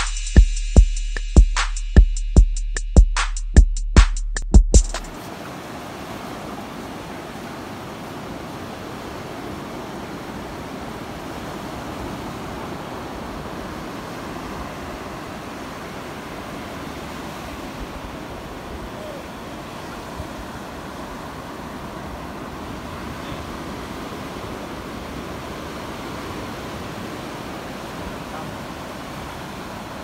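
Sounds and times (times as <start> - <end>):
waves breaking: 5.0 - 30.0.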